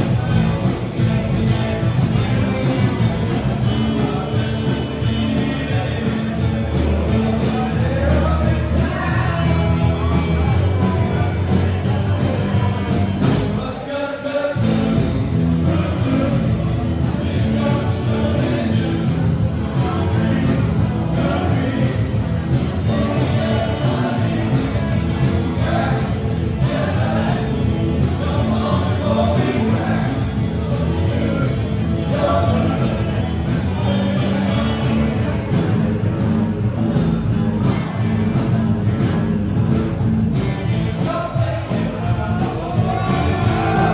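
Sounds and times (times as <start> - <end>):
steady drumbeat: 0.0 - 13.6, 14.6 - 43.9
rock band playing live: 0.0 - 13.8, 14.6 - 43.9
person singing: 0.0 - 35.6, 40.8 - 43.9.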